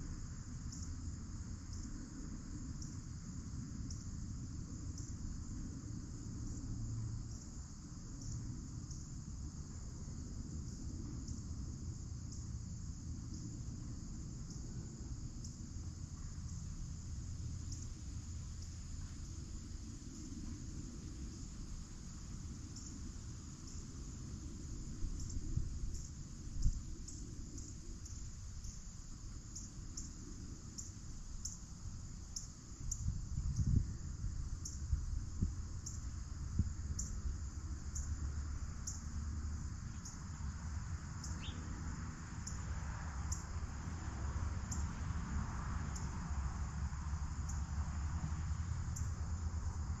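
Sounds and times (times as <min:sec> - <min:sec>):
crickets chirping: 0:00.0 - 0:50.0
low steady rumble: 0:00.0 - 0:50.0.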